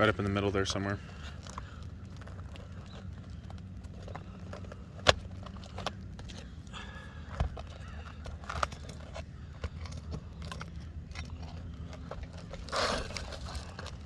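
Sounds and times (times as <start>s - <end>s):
clicks and scrapes on shingle: 0.0s - 14.0s
roof shingle tearing: 1.0s - 14.0s.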